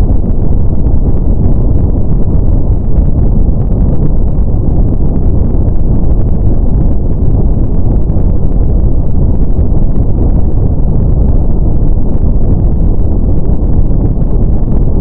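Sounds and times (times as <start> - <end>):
brown noise: 0.0 - 15.0.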